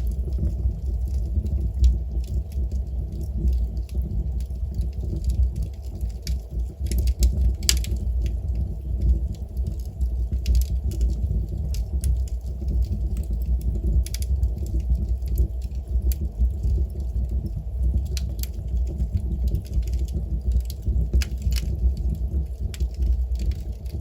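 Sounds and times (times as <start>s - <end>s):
steady low rumble: 0.0s - 24.0s
wood fire crackles and pops: 0.0s - 24.0s.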